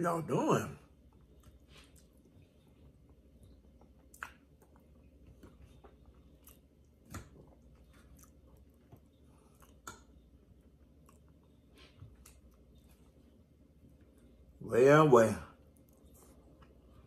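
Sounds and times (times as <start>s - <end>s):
faint chewing: 0.9s - 14.6s, 15.6s - 17.0s.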